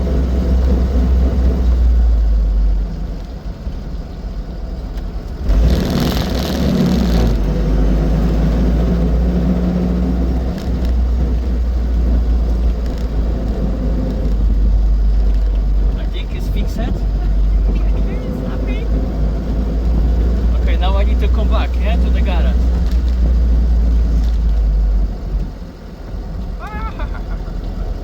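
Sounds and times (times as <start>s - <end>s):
road and drive noise: 0.0s - 28.0s
small car engine running: 0.0s - 28.0s.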